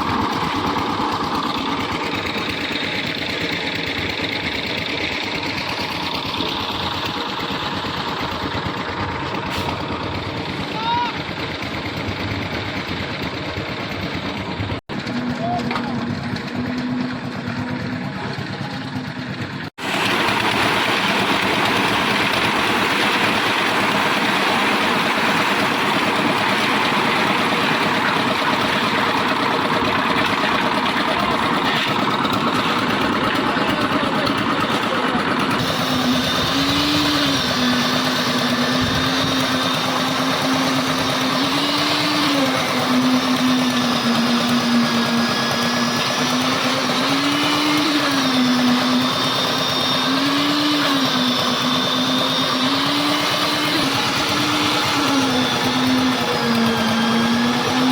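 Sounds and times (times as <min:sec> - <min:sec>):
concrete mixer engine running: 0:00.0 - 0:57.9.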